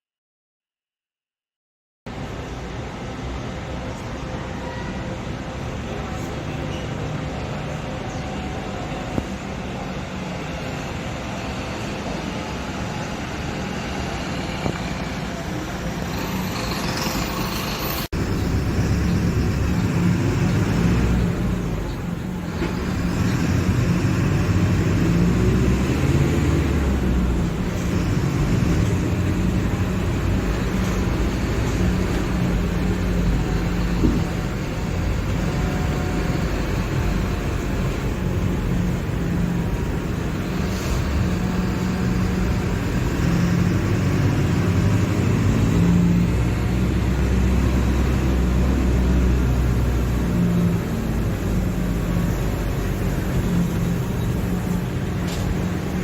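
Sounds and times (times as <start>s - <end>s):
bus diesel engine running: 2.1s - 56.0s.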